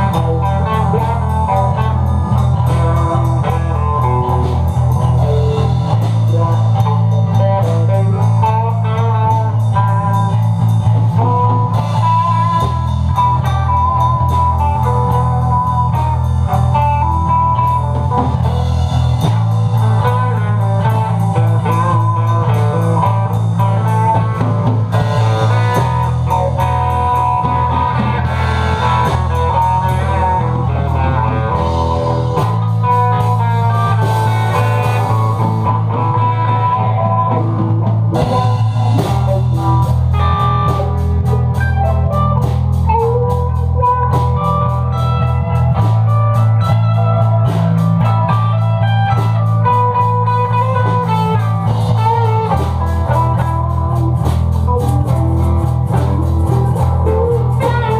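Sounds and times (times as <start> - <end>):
bass guitar: 0.0 - 57.9
drum kit with cymbals: 0.0 - 57.9
lead guitar: 0.0 - 57.9.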